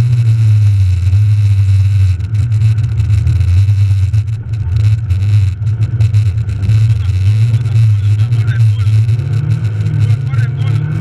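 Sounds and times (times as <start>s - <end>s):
rally car engine running hard: 0.0s - 11.0s.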